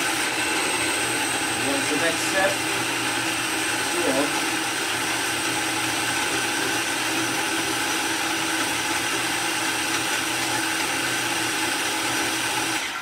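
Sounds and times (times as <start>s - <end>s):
food chopper motor whining: 0.0s - 13.0s.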